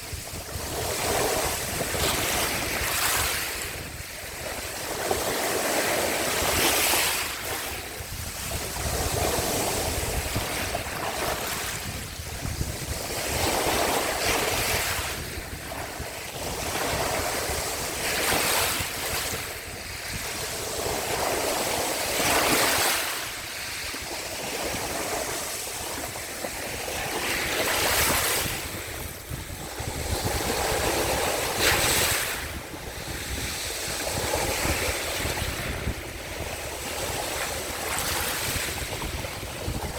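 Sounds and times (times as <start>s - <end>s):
small sea waves washing ashore: 0.0s - 39.9s
wind buffeting microphone: 0.0s - 39.9s.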